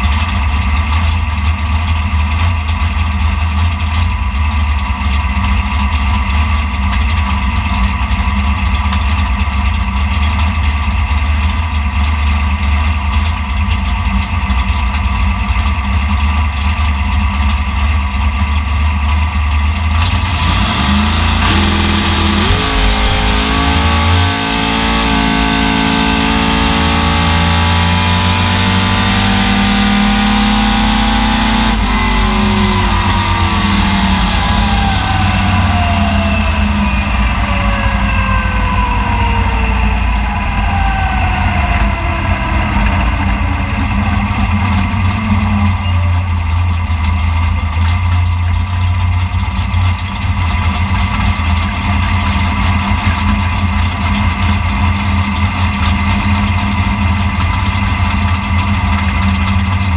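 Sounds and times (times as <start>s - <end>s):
car engine revving and slowing: 0.0s - 59.9s.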